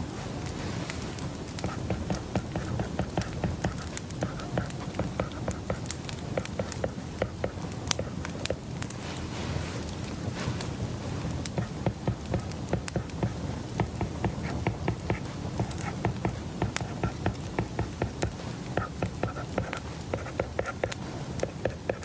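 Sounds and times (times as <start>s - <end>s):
steady low hum: 0.0s - 22.0s
light clicks and taps: 0.8s - 9.2s, 11.4s - 22.0s.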